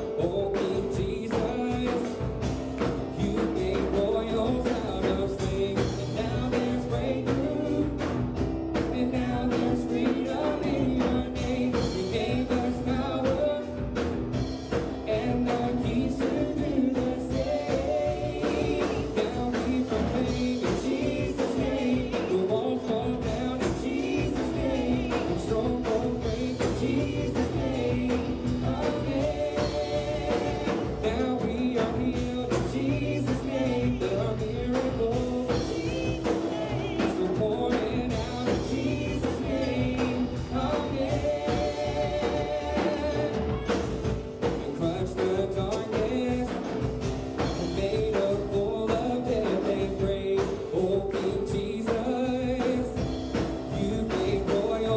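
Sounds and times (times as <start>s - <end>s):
steady drum beat: 0.0s - 54.9s
worship band singing and playing: 0.0s - 54.9s.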